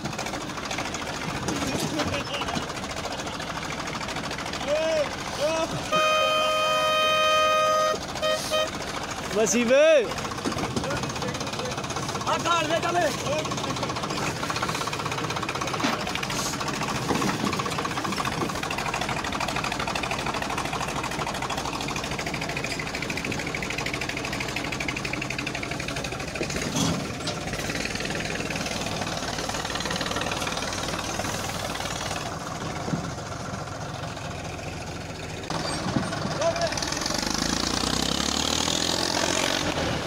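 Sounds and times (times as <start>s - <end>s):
diesel tractor engine running: 0.0s - 40.0s.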